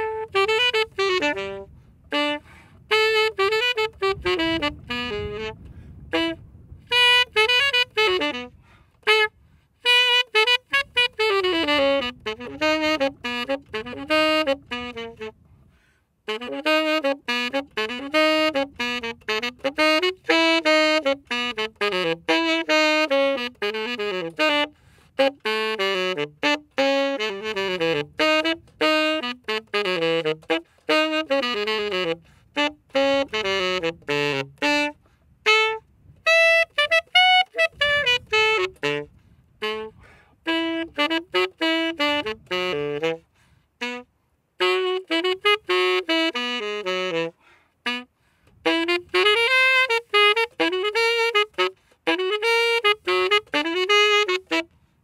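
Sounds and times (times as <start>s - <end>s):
solo saxophone melody: 0.0s - 55.0s.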